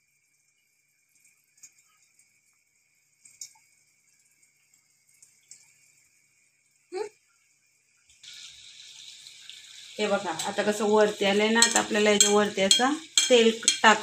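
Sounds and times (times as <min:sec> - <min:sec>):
oil sizzling with small pops: 0:00.0 - 0:14.0.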